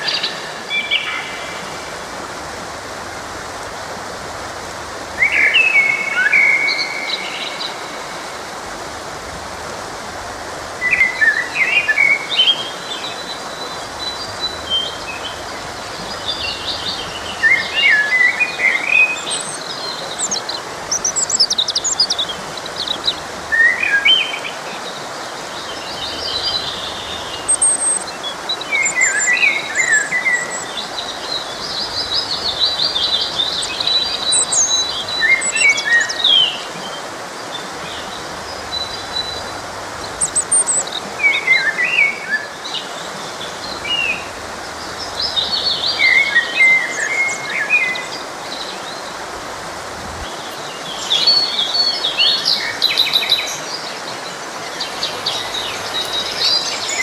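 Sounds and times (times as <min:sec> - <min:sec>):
songbirds chirping: 0:00.0 - 0:57.0
stream rushing: 0:00.0 - 0:57.0.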